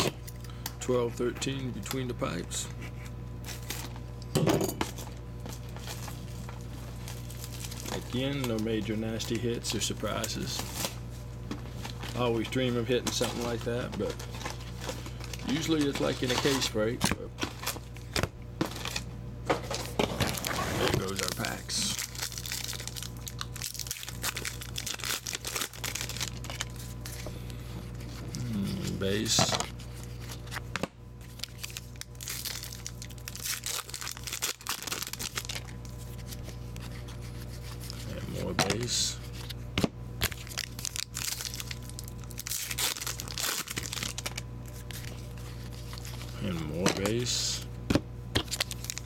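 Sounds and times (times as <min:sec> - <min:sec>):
steady low hum: 0:00.0 - 0:49.0
plastic wrappers crinkling: 0:03.4 - 0:04.0, 0:05.0 - 0:27.3, 0:27.9 - 0:39.5, 0:40.2 - 0:47.6, 0:48.4 - 0:49.0.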